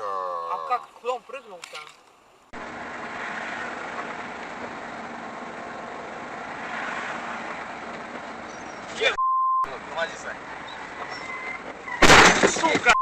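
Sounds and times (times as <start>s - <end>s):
car engine and road noise: 1.4s - 13.0s.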